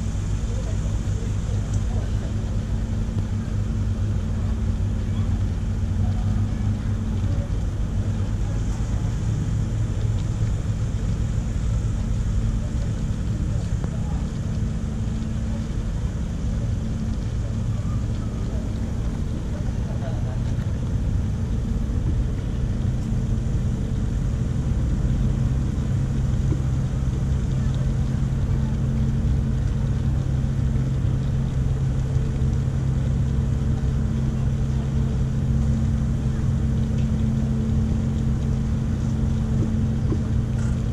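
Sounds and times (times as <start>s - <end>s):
low engine drone: 0.0s - 40.9s.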